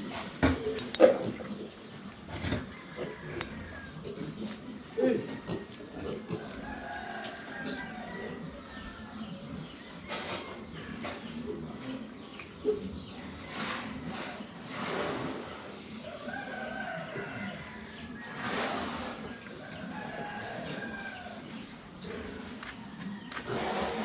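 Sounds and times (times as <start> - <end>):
chickens clucking: 0.0 - 24.0
roosters crowing: 2.3 - 11.4, 13.0 - 24.0.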